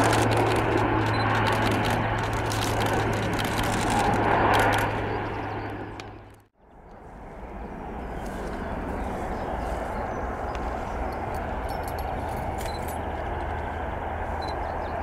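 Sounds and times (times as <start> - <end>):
faint airport jet noise: 0.0 - 15.0
jet engines landing: 0.0 - 15.0.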